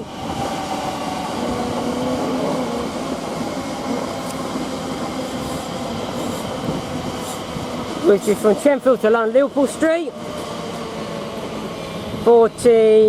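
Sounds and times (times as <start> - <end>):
train hum: 0.0 - 13.0
train wheels rumbling on rails: 0.0 - 13.0.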